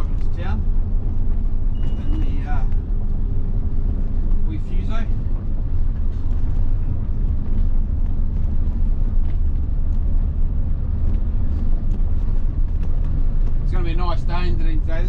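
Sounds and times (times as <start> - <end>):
diesel bus engine running: 0.0 - 15.0
road noise: 0.0 - 15.0.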